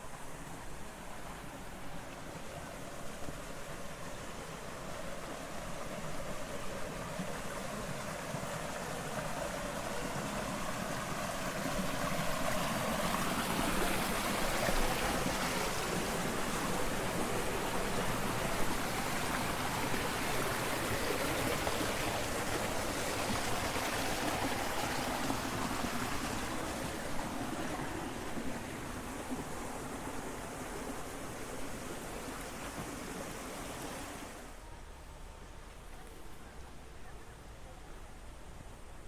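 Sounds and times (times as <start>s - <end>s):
water rushing along channel: 0.0s - 39.0s.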